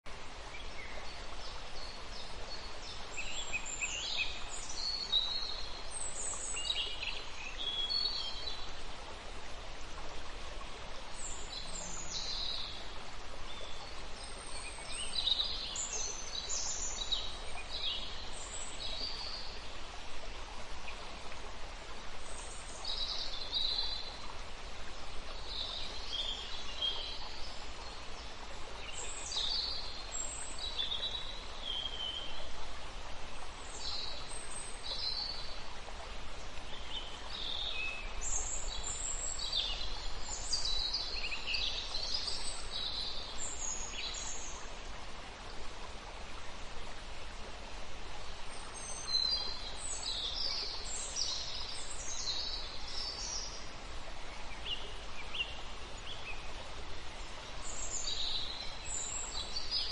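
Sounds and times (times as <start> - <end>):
background hiss: 0.1 - 59.9.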